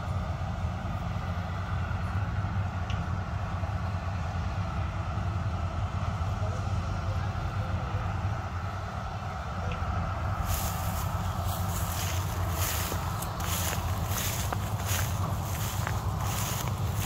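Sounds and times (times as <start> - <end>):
combine harvester engine drone: 0.0 - 17.0
machinery hum: 0.0 - 17.0.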